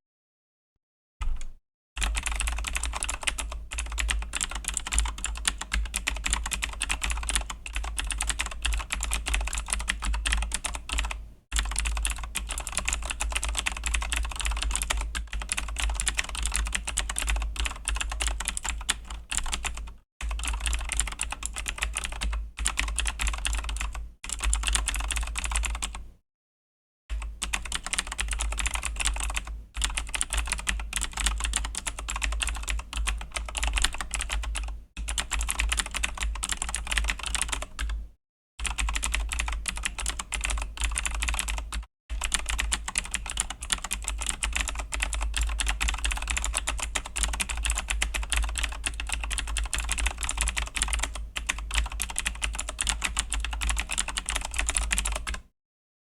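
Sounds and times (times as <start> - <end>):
mechanical keyboard typing clicks: 1.2 - 26.0, 27.1 - 38.0, 38.6 - 55.5.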